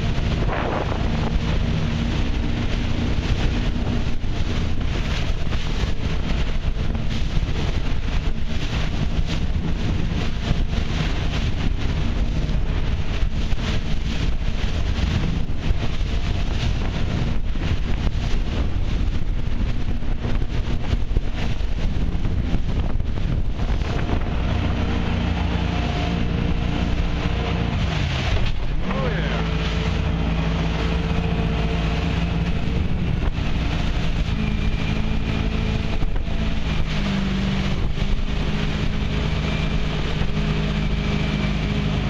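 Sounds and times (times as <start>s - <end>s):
boat engine drone: 0.0s - 42.0s
water rushing along hull: 0.0s - 42.0s
wind buffeting microphone: 0.0s - 42.0s.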